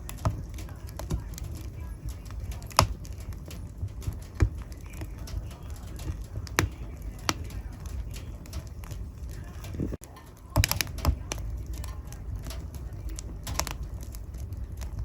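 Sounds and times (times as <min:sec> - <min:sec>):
fire crackling pops: 0:00.0 - 0:15.0
flames rumbling: 0:00.0 - 0:15.0.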